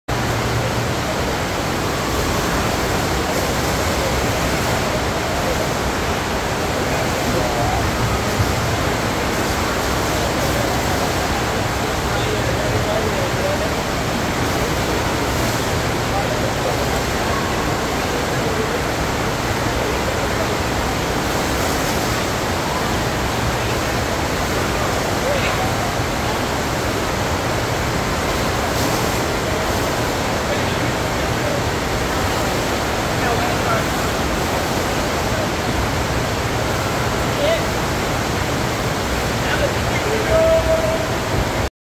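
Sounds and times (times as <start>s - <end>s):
pumped water rushing: 0.1s - 41.7s.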